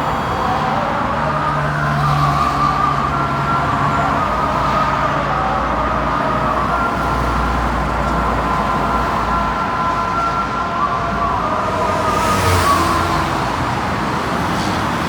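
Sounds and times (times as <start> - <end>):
road noise rush: 0.0 - 15.0.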